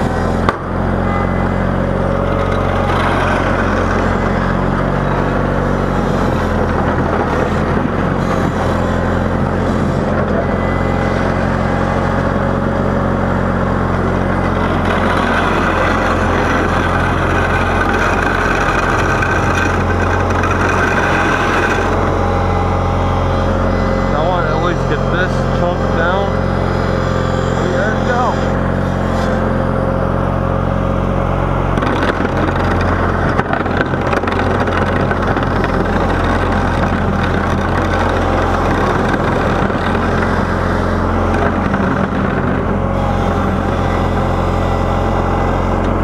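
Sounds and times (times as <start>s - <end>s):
garden tractor engine running: 0.0s - 46.0s.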